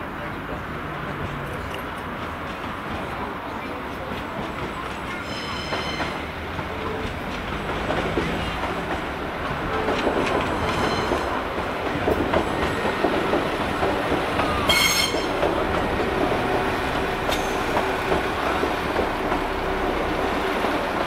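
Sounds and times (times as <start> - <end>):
train rumble with clickety-clack: 0.0 - 21.0.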